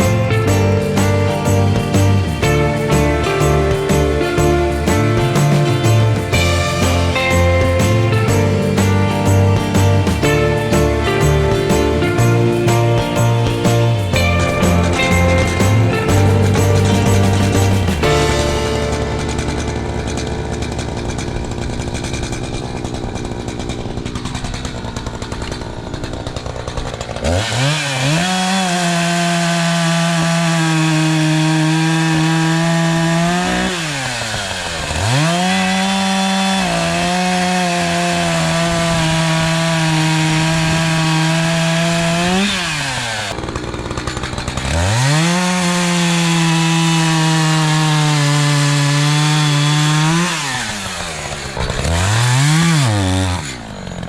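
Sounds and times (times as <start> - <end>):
chainsaw revving and cutting: 0.0 - 54.0.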